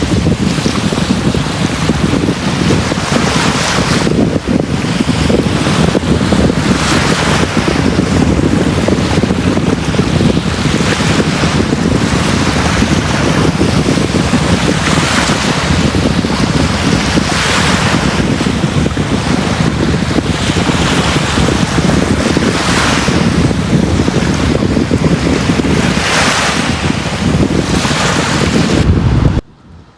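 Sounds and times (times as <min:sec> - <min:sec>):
waves breaking with hissing wash: 0:00.0 - 0:28.9
surf rumbling: 0:00.0 - 0:29.9.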